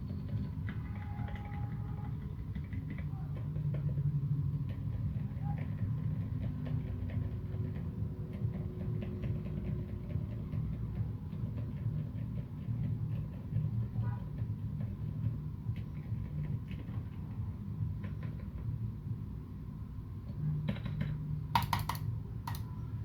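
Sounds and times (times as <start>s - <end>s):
fast typing on mechanical keyboard: 0.0s - 18.6s, 20.7s - 22.7s.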